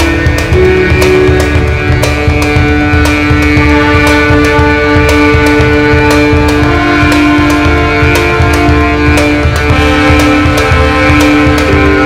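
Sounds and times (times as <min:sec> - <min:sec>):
drum hits: 0:00.0 - 0:12.0
guitar chords: 0:00.0 - 0:12.0.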